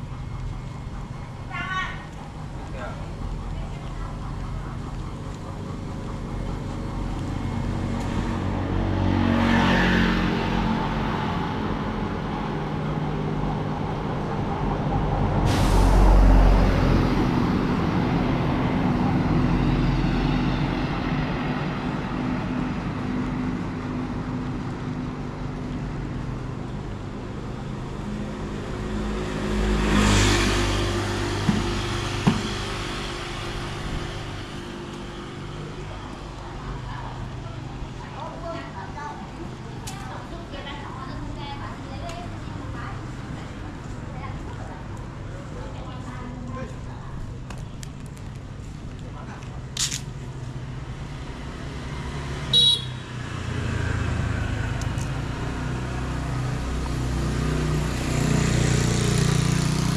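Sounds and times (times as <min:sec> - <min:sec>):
vehicles passing by: 0:00.0 - 0:59.9.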